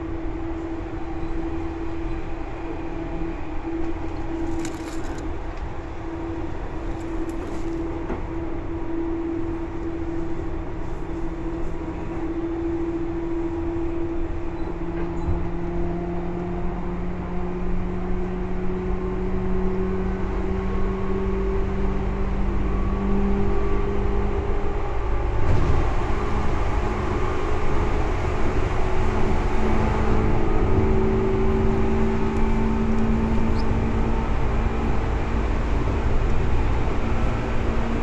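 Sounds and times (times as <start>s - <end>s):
rumbling wheels on track: 0.0s - 38.0s.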